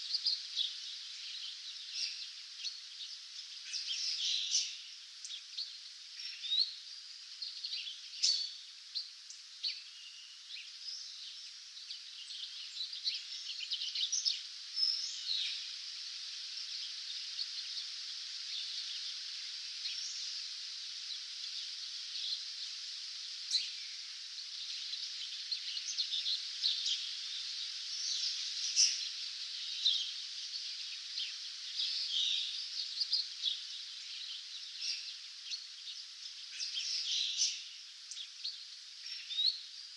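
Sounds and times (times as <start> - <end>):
high background hiss: 0.0 - 39.9
songbirds chirping and singing: 0.0 - 39.9.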